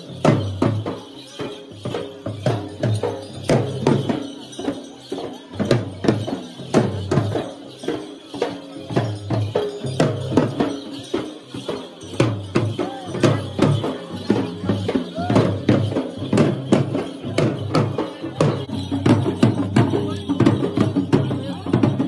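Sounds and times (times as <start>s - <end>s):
drums beaten hard: 0.0s - 22.0s
metallic jingle: 0.0s - 22.0s.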